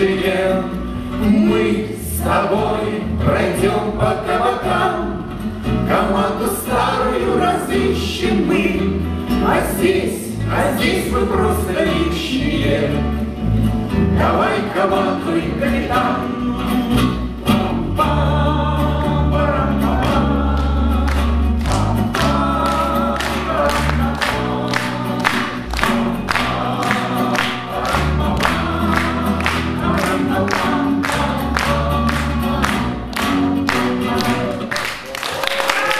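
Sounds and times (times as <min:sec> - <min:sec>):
acoustic guitars strumming: 0:00.0 - 0:35.1
bass guitar: 0:00.0 - 0:35.1
voices singing together: 0:00.0 - 0:35.9.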